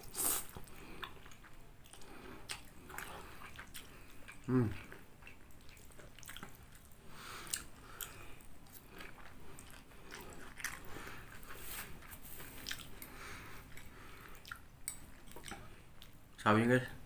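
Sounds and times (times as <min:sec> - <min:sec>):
wet chewing sounds: 0:00.0 - 0:16.4.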